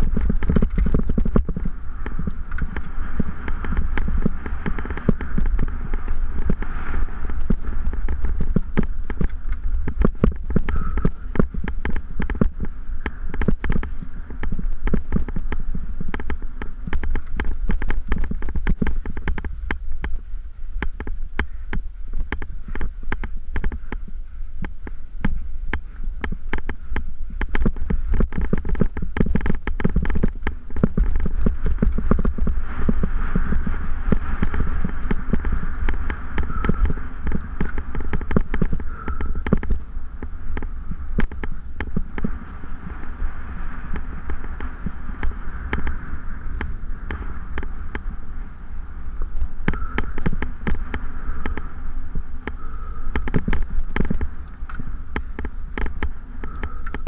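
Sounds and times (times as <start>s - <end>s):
mountain bike rattling: 0.0s - 57.0s
wind buffeting microphone: 0.0s - 57.0s.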